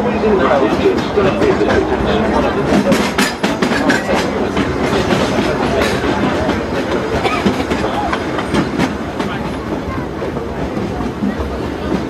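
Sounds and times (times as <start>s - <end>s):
train car rumbling: 0.0s - 12.0s
train wheels clicking over rail joints: 0.0s - 12.0s.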